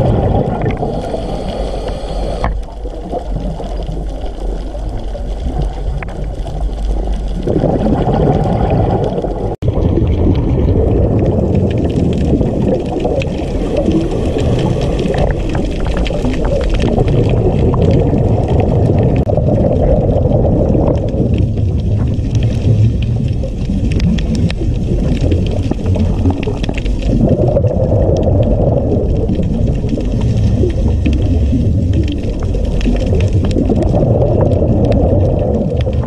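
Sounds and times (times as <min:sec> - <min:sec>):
underwater rumble and gurgling: 0:00.0 - 0:36.0
faint crackling clicks: 0:00.1 - 0:09.6, 0:11.1 - 0:36.0.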